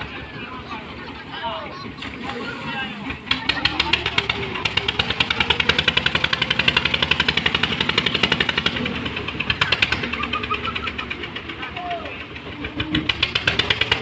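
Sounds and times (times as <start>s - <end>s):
engine knocking: 0.0s - 14.0s.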